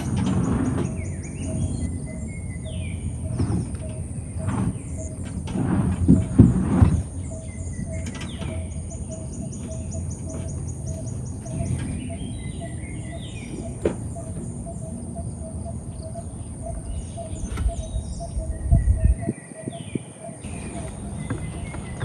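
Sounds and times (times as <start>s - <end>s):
low outdoor rumble: 0.0s - 19.3s
birds chirping and trilling: 0.0s - 22.0s.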